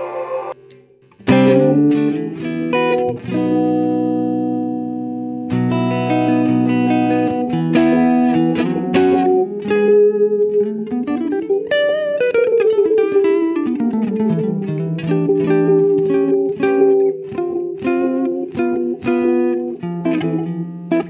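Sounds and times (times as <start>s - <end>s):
reverberant guitar notes: 0.0s - 21.0s.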